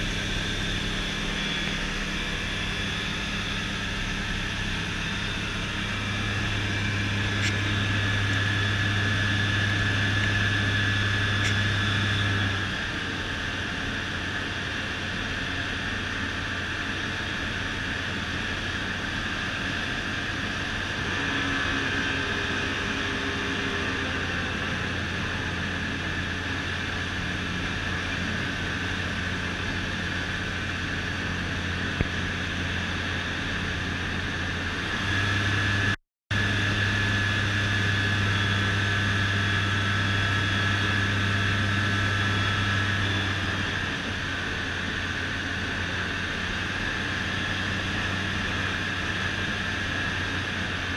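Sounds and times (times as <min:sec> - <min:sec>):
light aircraft engine droning: 0:00.0 - 0:50.9.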